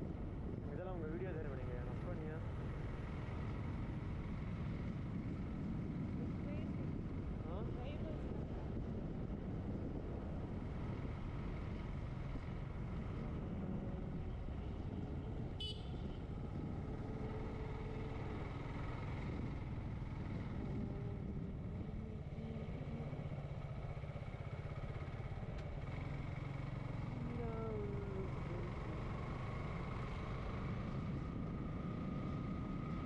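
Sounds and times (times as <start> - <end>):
road and wind noise: 0.0 - 33.0
motorcycle engine running: 1.5 - 33.0.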